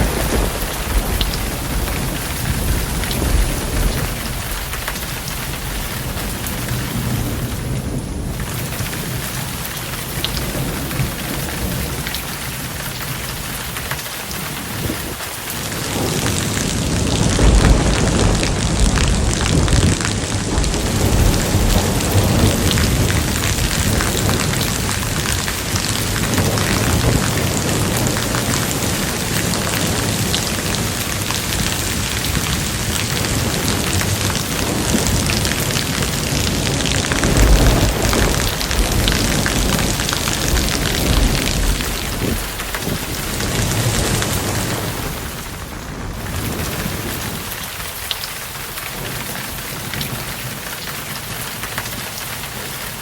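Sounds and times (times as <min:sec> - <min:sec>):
deep thunder rumbling: 0:00.0 - 0:50.8
heavy rain pattering: 0:00.0 - 0:53.0.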